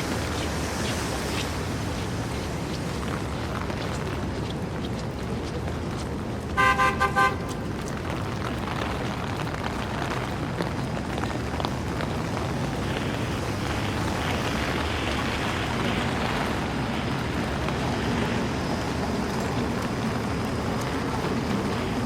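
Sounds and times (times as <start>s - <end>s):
heavy rain hissing: 0.0s - 22.0s
traffic on wet pavement: 0.0s - 22.0s.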